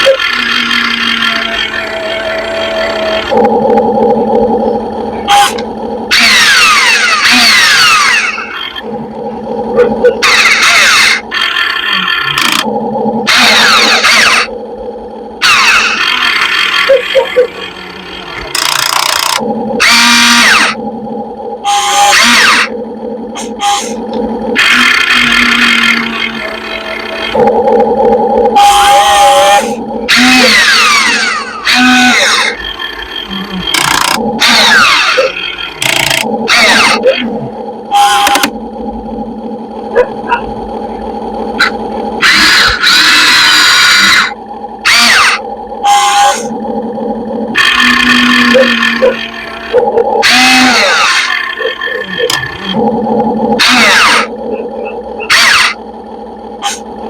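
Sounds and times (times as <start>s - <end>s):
model excavator motors whirring: 0.0s - 57.0s
steady hum: 0.0s - 57.0s.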